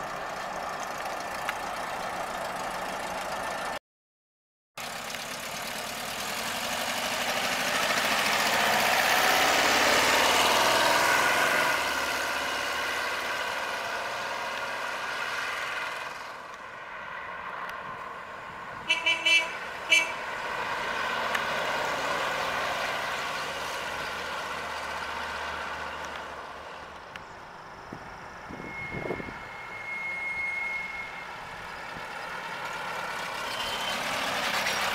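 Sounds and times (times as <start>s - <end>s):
car engine driving by: 4.8s - 34.9s.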